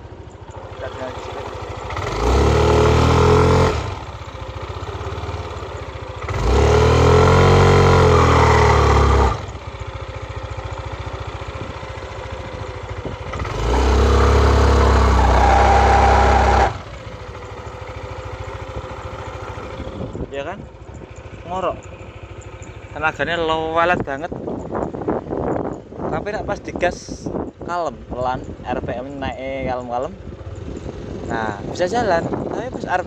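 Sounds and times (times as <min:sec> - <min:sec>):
scooter engine idling and revving: 0:00.0 - 0:33.0.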